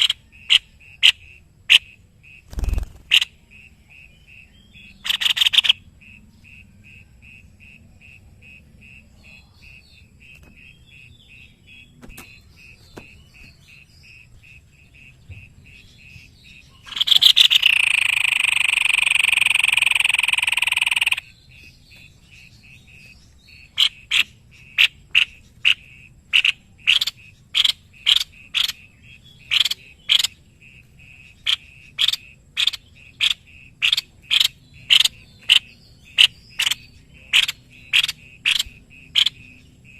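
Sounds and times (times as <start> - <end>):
faint fast pulsing animal call: 0.0 - 39.9.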